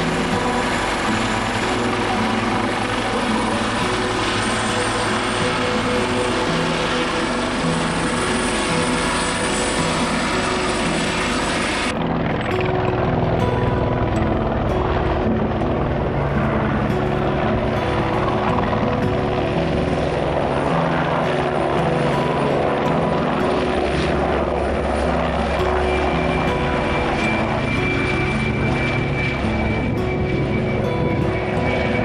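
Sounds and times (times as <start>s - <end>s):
helicopter rotor beating: 0.0s - 32.0s
thin high whine: 0.0s - 32.0s.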